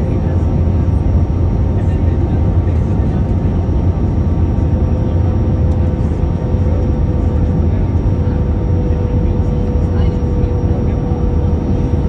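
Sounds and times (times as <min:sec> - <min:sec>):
aircraft engines and rushing air: 0:00.0 - 0:12.0.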